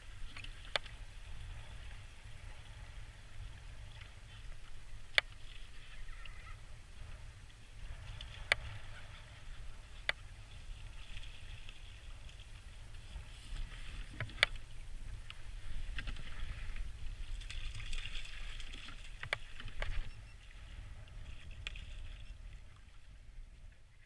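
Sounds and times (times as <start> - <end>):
water sloshing around kayak: 0.0 - 24.0
wind rumble on microphone: 0.0 - 24.0.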